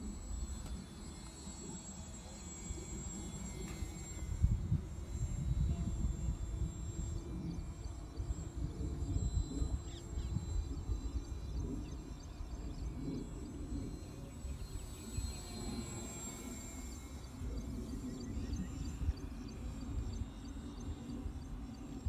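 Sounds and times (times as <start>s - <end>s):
model airplane motor whine: 0.0s - 22.0s
wind buffeting microphone: 3.4s - 22.0s.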